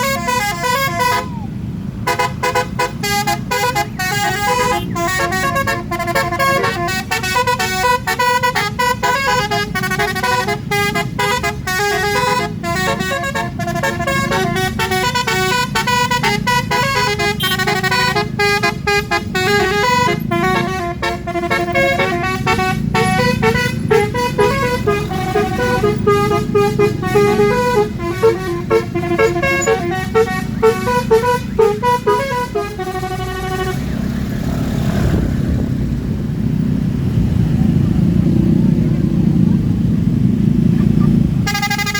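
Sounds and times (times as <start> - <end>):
multi-tone air horn tune: 0.0 - 1.5, 2.1 - 33.9, 41.4 - 41.9
low steady rumble: 0.0 - 33.8.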